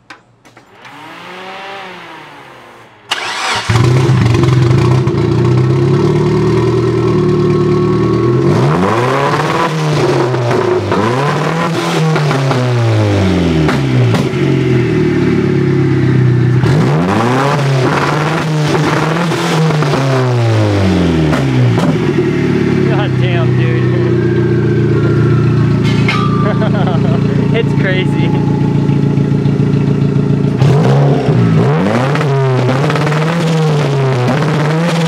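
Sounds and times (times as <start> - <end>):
car engine starting and revving: 0.7 - 35.0.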